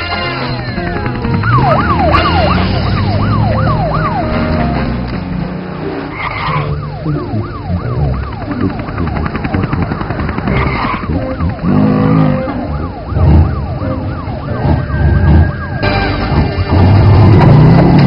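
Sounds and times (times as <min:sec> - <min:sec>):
fire engine siren: 0:01.0 - 0:05.1, 0:06.2 - 0:18.0.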